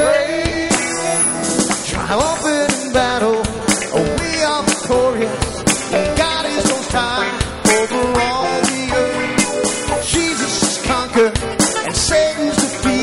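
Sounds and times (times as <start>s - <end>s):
band with drums and guitar: 0.0s - 13.0s
drums hitting a steady beat: 0.0s - 13.0s.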